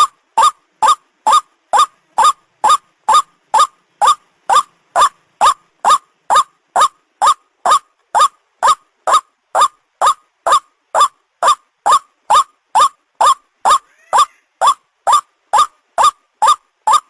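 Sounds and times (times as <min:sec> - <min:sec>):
bird calls sharply rising: 0:00.0 - 0:17.0.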